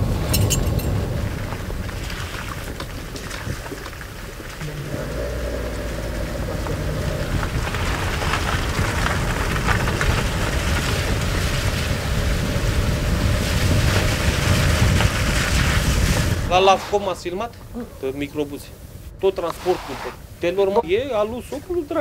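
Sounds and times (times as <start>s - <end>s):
car road and wind noise: 0.0s - 19.4s
faint constant hum: 0.0s - 22.0s.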